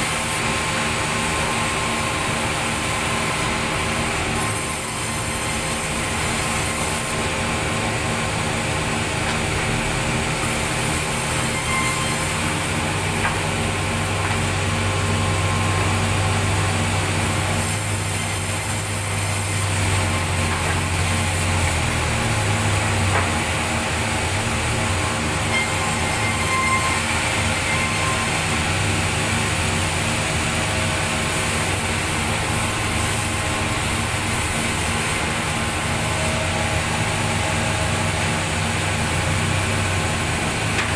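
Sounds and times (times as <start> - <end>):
band saw and motors humming: 0.0 - 40.9.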